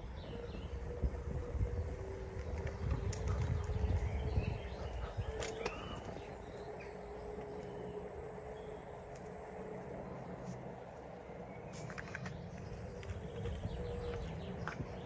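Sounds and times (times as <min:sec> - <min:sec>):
faint steady hum: 0:00.0 - 0:15.0
low rumble: 0:00.0 - 0:15.0
small birds chirping: 0:00.0 - 0:15.0.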